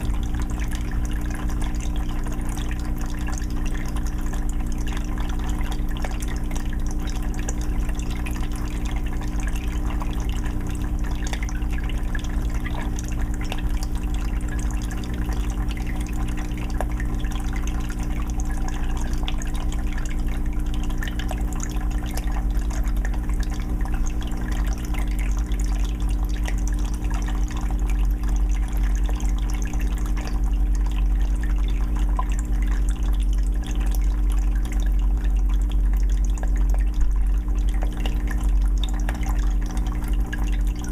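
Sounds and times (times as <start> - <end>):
low hum: 0.0 - 40.9
small water splashes: 0.0 - 40.9
water trickling and dripping: 0.0 - 40.9.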